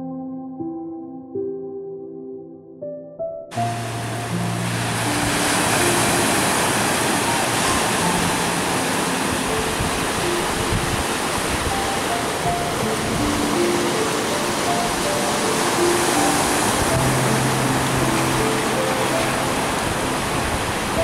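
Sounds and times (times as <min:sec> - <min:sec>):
soft slow music: 0:00.0 - 0:21.0
ocean surf breaking: 0:03.5 - 0:21.0.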